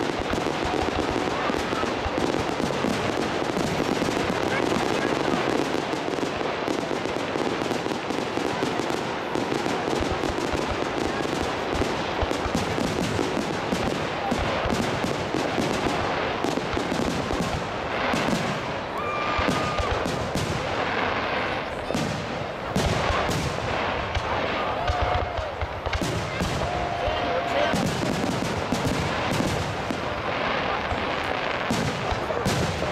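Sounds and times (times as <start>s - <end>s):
fireworks crackling: 0.0s - 32.9s.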